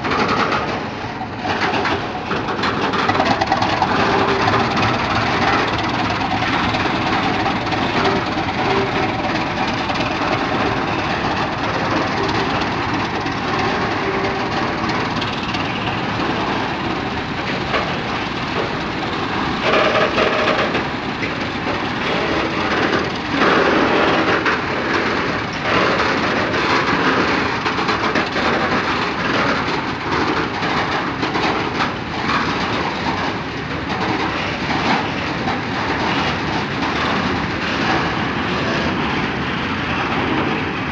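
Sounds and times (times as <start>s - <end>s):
diesel locomotive engines: 0.0s - 40.9s
wheels clattering over rail joints: 0.0s - 40.9s.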